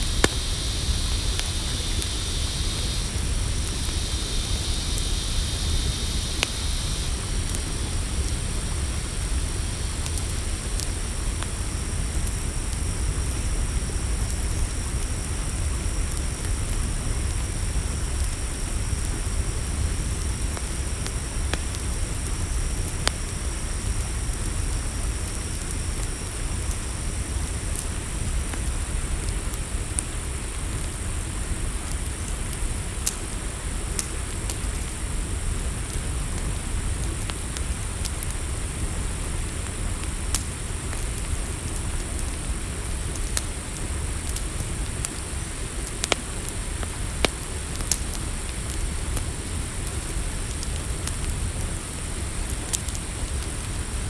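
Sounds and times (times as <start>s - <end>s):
campfire crackling and popping: 0.0s - 54.0s
crickets chirping: 0.0s - 54.0s.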